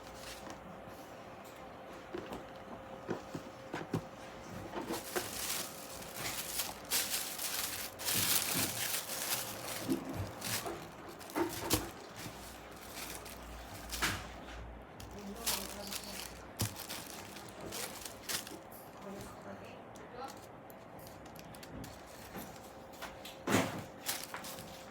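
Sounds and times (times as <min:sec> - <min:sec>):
packaging rustling and crinkling: 0:00.0 - 0:00.7, 0:02.0 - 0:14.4, 0:15.0 - 0:19.4, 0:20.2 - 0:24.9.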